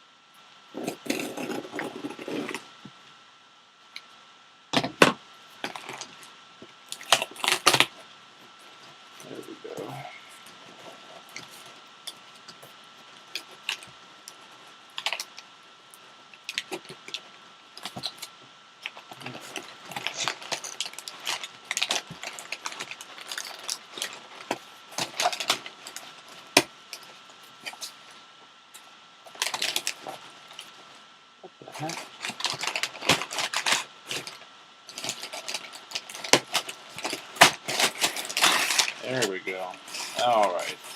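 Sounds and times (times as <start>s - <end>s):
box packaging crinkling: 0.8s - 2.7s, 4.8s - 6.3s, 6.9s - 15.4s, 16.4s - 28.2s, 29.3s - 30.8s, 31.7s - 40.9s.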